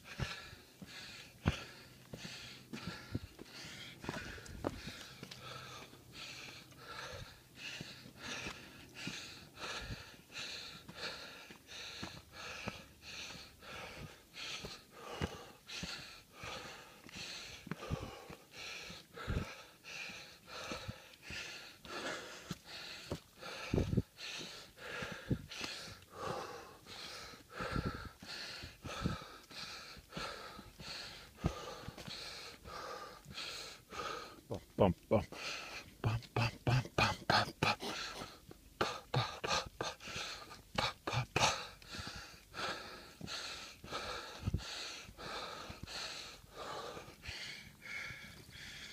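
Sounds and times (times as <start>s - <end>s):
person panting heavily: 0.0s - 48.9s.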